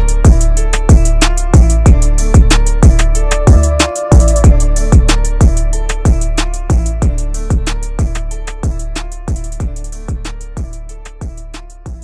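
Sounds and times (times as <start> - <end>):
electronic beat: 0.0 - 12.0
deep bass drum dropping in pitch: 0.2 - 12.0.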